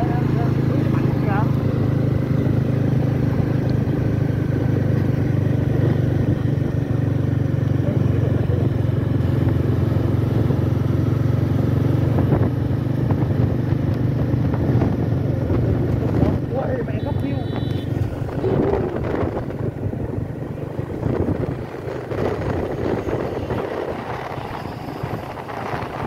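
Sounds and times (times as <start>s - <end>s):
motorbike engine hum: 0.0s - 26.0s
road and wind noise: 0.0s - 26.0s.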